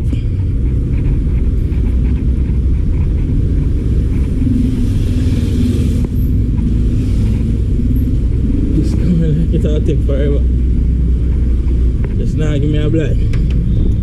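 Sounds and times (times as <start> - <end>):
road traffic noise: 0.0 - 14.0
vehicle passing: 0.0 - 14.0.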